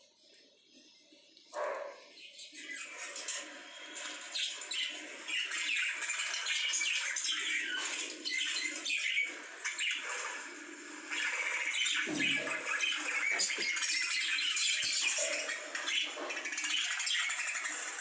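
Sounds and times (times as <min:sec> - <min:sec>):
lovebirds chattering and squawking: 0:00.2 - 0:18.0.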